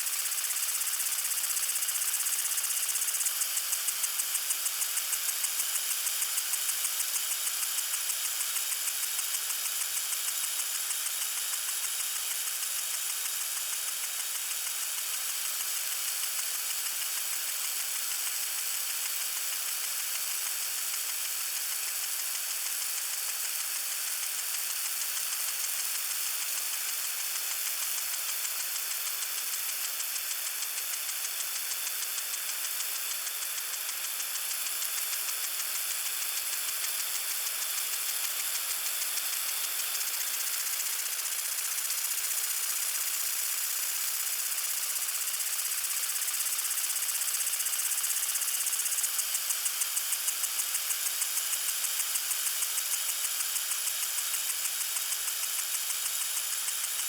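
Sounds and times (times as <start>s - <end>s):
lawn sprinkler spraying water: 0.0s - 57.0s.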